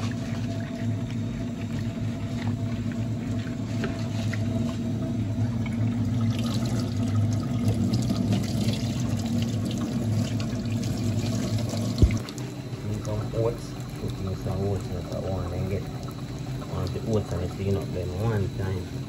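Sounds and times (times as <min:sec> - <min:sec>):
water splashing: 0:00.0 - 0:18.8.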